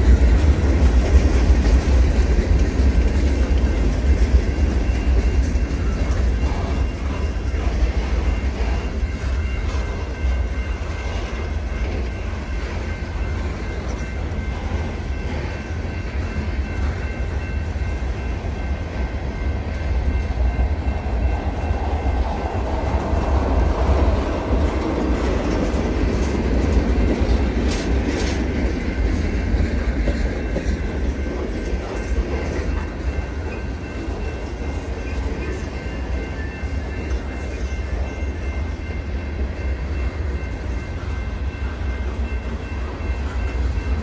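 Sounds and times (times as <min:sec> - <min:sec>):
freight train wheels clacking: 0:00.0 - 0:44.0.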